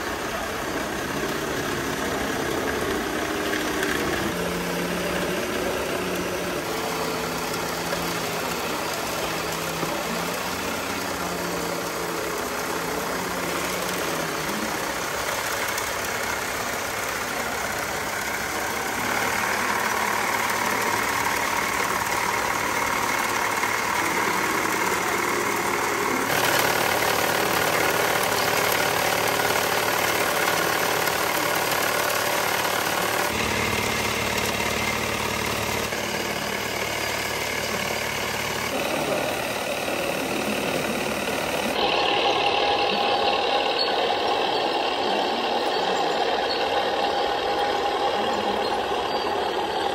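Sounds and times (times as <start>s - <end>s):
model vehicle motors whining: 0.0s - 49.9s.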